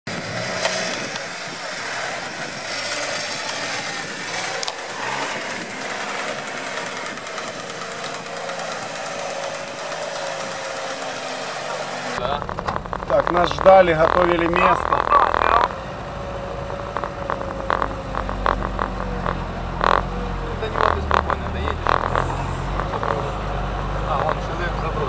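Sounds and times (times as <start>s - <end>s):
truck engine running: 0.1s - 25.0s.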